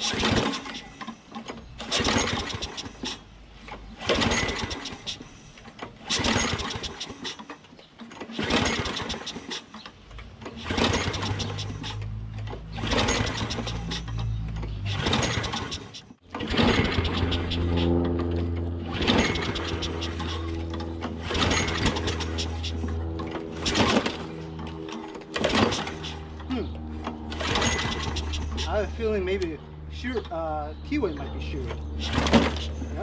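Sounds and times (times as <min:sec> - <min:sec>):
recoil starter cranking engine: 0:00.0 - 0:33.0.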